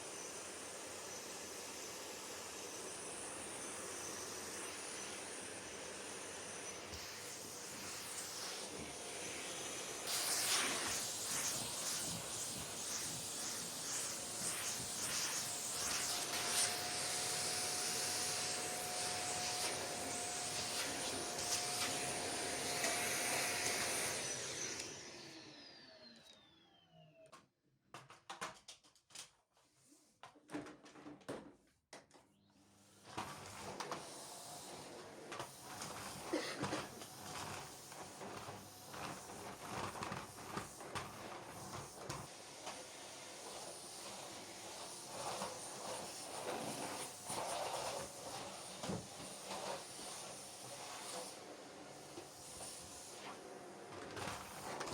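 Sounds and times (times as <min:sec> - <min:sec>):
vacuum cleaner running: 0:00.0 - 0:27.3, 0:32.6 - 0:54.9.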